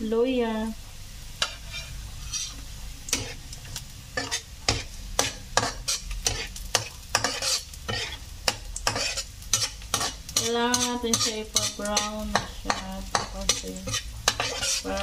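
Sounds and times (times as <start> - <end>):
vegetables sizzling in oil: 0.0 - 15.0
spatula scraping metal wok: 1.4 - 15.0.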